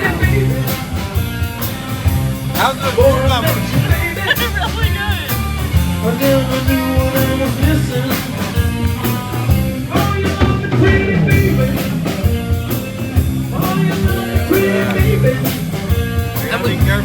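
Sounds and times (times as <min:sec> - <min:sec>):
bass guitar: 0:00.0 - 0:17.0
drum kit beat: 0:00.0 - 0:17.0
electric guitar: 0:00.0 - 0:17.0.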